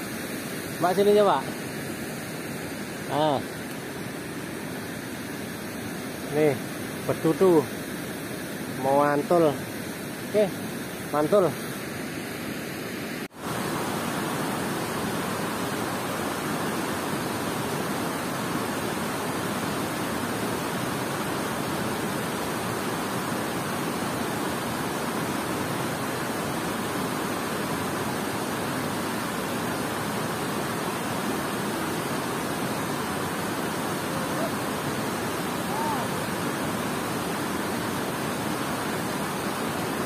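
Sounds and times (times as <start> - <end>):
water rushing over spillway: 0.0 - 40.0.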